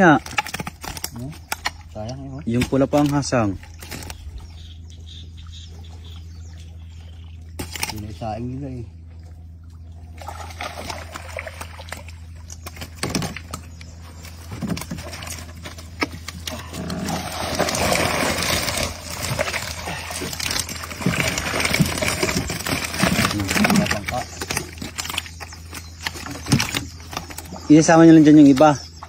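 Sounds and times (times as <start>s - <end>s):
water sloshing against boat: 0.0s - 29.0s.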